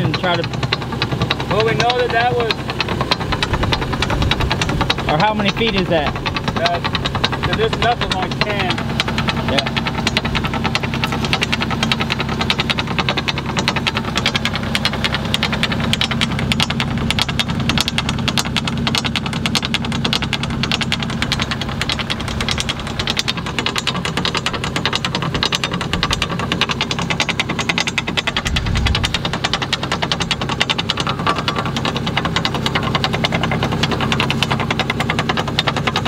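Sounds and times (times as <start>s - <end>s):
machine engine knocking: 0.0s - 36.0s.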